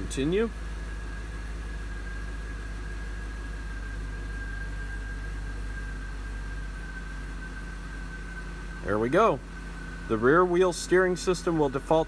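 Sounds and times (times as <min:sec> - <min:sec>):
thin high whine: 0:00.0 - 0:12.0
truck engine idling: 0:00.0 - 0:12.0.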